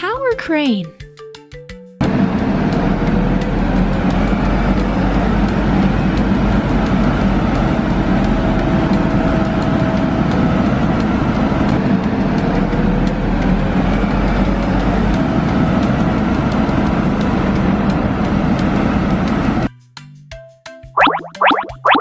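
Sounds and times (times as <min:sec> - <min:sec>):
heavy engine running: 0:02.0 - 0:19.7.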